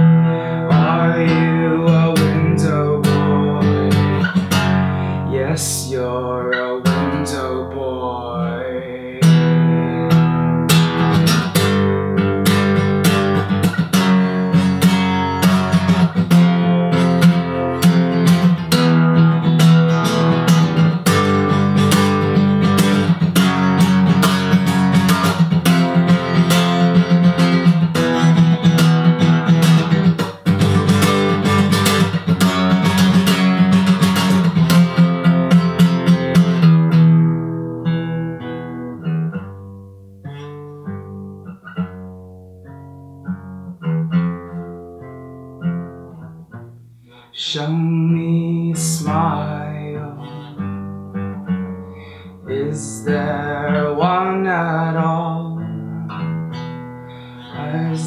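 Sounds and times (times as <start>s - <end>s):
strummed acoustic guitar: 0.0s - 58.0s.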